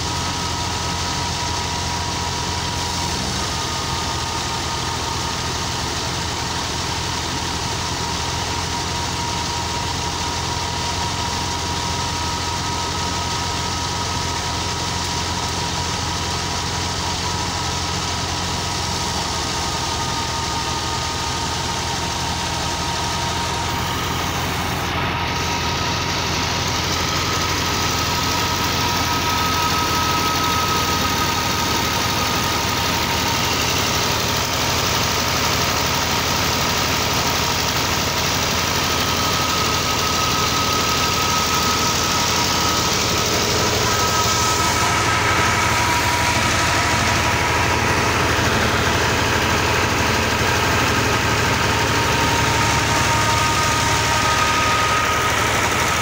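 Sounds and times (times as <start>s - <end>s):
thin steady whine: 0.0s - 56.0s
thresher running: 0.0s - 56.0s
tractor diesel engine running: 0.0s - 56.0s.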